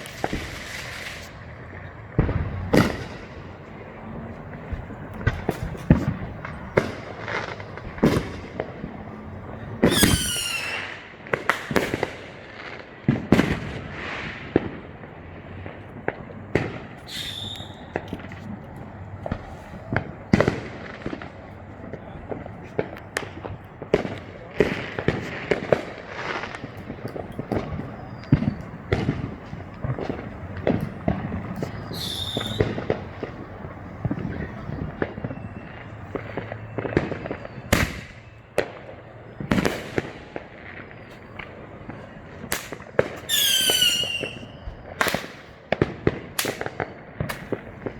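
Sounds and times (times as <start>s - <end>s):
fireworks and firecrackers banging: 0.0s - 47.9s
whistling firework: 0.0s - 47.9s.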